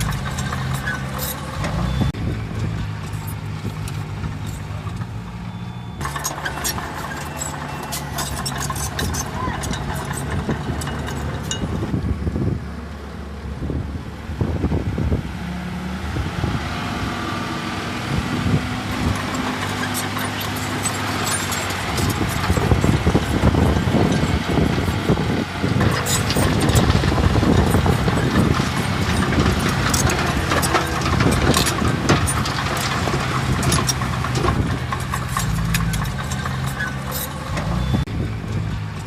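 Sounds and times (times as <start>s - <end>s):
machinery rattling and knocking: 0.0s - 5.2s, 6.0s - 12.0s, 18.4s - 39.0s
heavy diesel machinery running: 0.0s - 39.0s.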